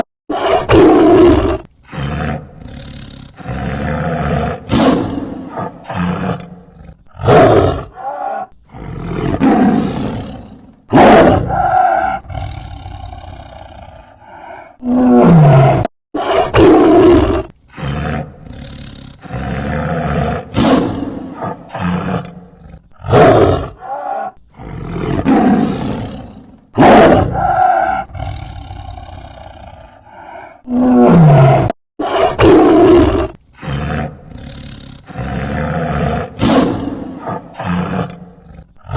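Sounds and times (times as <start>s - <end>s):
tiger roaring: 0.0s - 38.9s.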